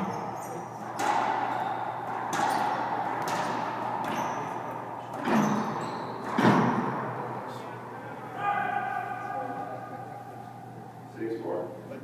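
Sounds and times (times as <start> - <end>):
racquetball hits echoing: 0.0 - 10.2.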